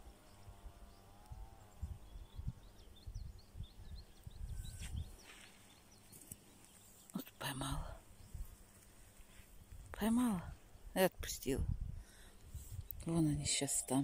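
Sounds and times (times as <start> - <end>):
low wind rumble on microphone: 0.0 - 6.1, 7.4 - 14.0.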